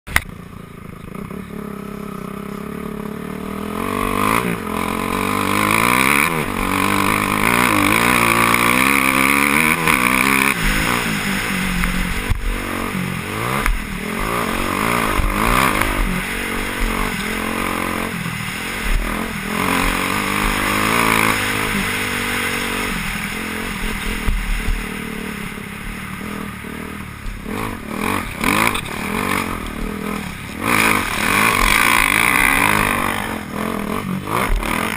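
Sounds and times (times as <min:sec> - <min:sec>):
motocross bike engines revving: 0:00.1 - 0:34.9.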